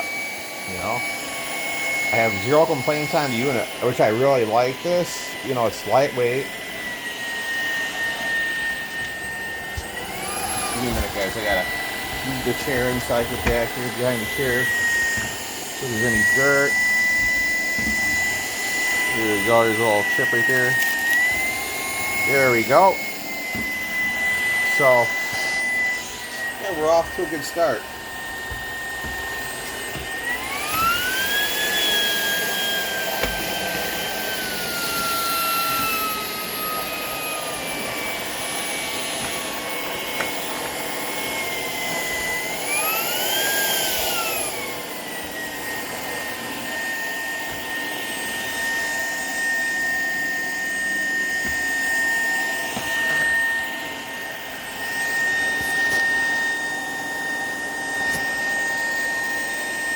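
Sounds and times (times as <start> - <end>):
cordless vacuum motor whine: 0.0 - 59.9.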